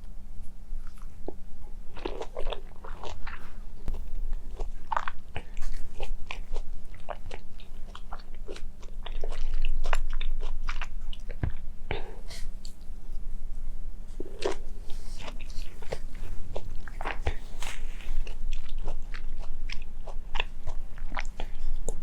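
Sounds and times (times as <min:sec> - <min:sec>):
faint low hum: 0:00.0 - 0:22.0
orange being chewed: 0:00.8 - 0:13.3, 0:14.1 - 0:22.0.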